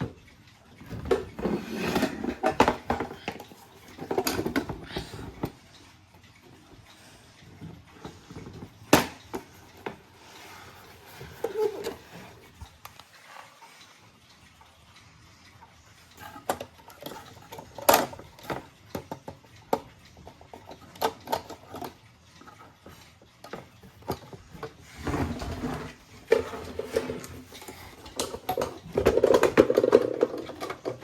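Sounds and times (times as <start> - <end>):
irregular clicks and knocks: 0.0 - 14.8, 15.4 - 31.0.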